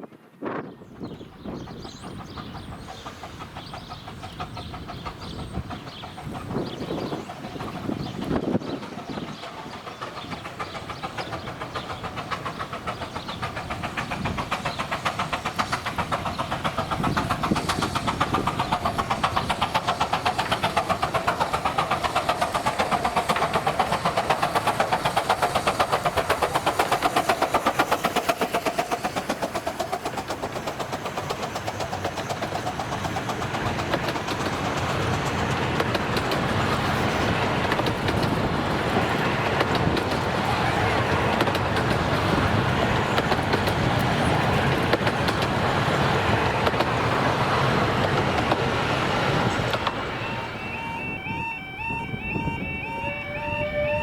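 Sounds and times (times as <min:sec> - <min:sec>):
steam train chuffing: 0:00.8 - 0:54.0
wheels on rails: 0:01.3 - 0:54.0.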